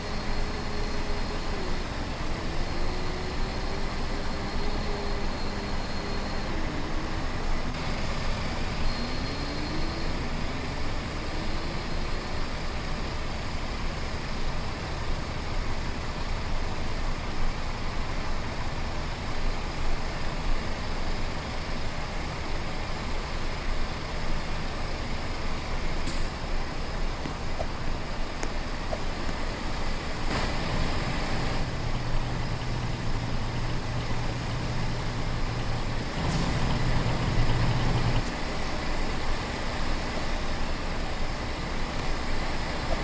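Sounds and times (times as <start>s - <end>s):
truck engine and road noise: 0.0s - 43.0s.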